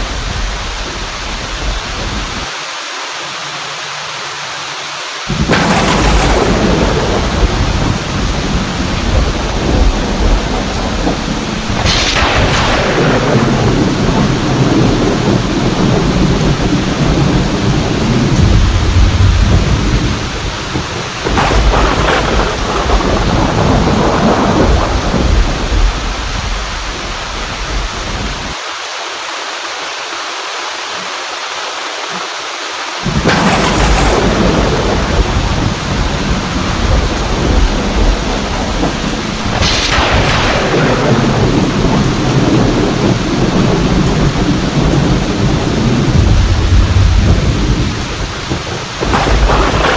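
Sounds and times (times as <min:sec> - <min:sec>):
heavy rain: 0:00.0 - 0:49.9
sharp thunderclaps: 0:05.3 - 0:28.5, 0:33.0 - 0:49.9
rolling thunder: 0:05.3 - 0:28.6, 0:33.0 - 0:49.9.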